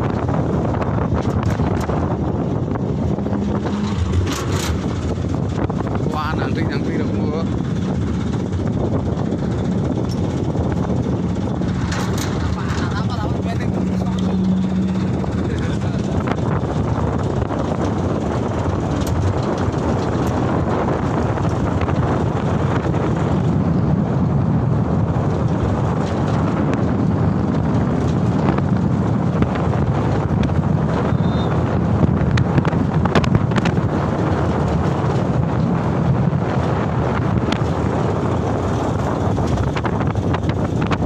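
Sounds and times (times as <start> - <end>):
truck engine and road noise: 0.0 - 41.0
wind buffeting microphone: 0.0 - 41.0.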